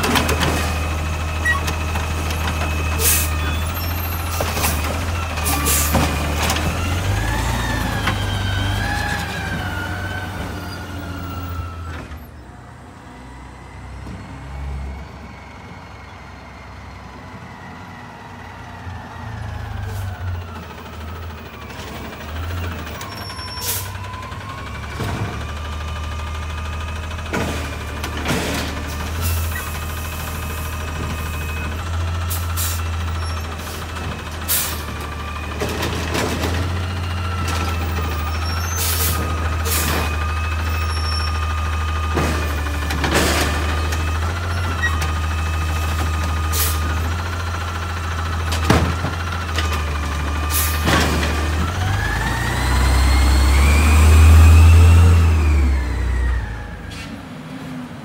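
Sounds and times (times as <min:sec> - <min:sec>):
truck engine revving: 0:00.0 - 0:11.9, 0:18.4 - 0:58.0.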